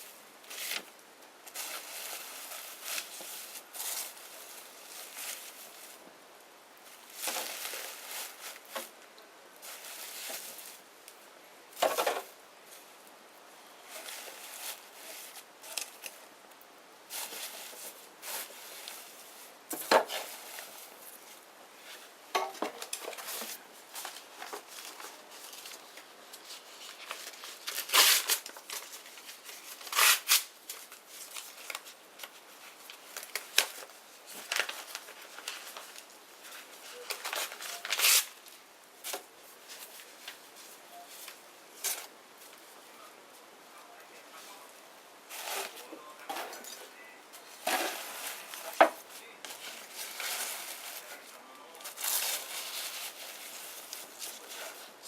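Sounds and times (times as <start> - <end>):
faint fire hiss: 0.0 - 55.0.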